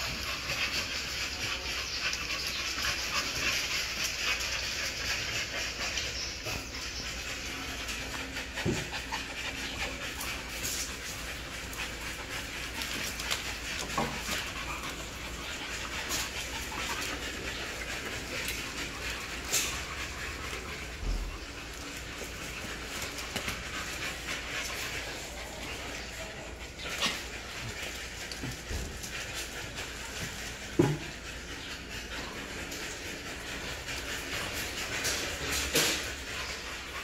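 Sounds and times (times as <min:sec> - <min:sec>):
puppies panting: 0:00.0 - 0:37.0.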